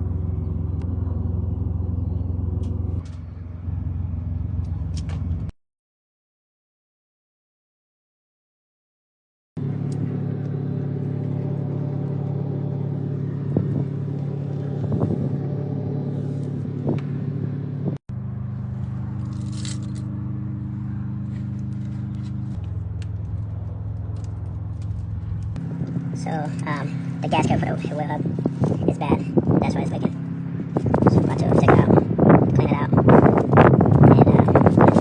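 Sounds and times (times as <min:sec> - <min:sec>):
engine idling: 0:00.0 - 0:05.5, 0:09.6 - 0:35.0.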